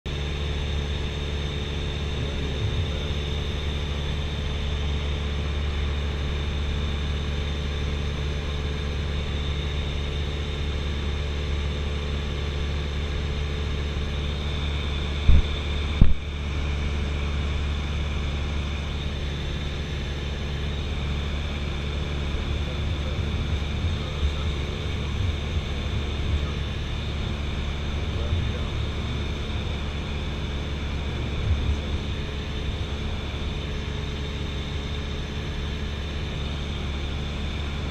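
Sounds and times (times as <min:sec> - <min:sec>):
propeller plane engine drone: 0:00.0 - 0:37.9.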